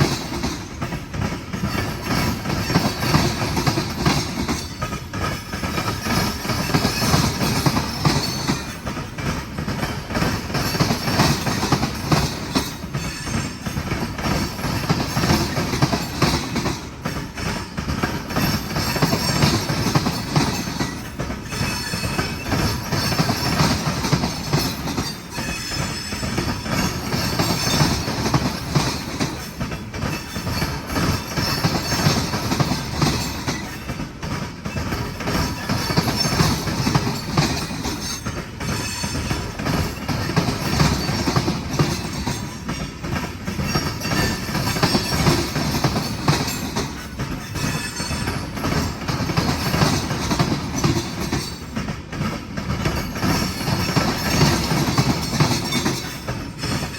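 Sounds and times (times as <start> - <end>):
wheels clacking over rail joints: 0.0 - 56.9.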